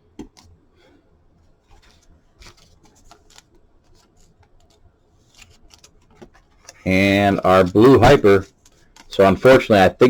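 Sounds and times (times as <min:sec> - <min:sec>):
trading cards rustling and clicking: 0:01.6 - 0:10.0.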